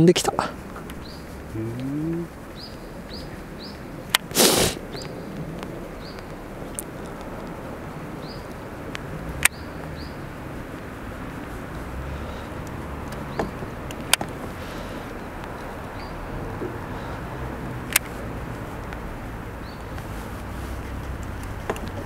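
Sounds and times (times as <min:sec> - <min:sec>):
open water rumble and hiss: 0:00.3 - 0:22.0.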